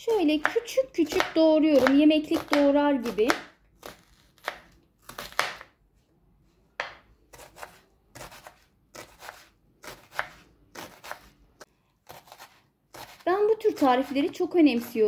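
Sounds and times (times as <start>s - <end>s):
knife chopping onion: 0.1s - 5.8s, 6.8s - 15.0s.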